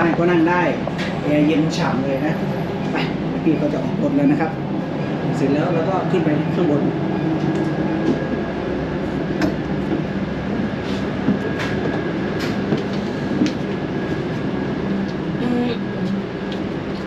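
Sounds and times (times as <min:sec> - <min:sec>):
air conditioning hum: 0:00.0 - 0:17.0
bus engine rumble: 0:00.0 - 0:17.0.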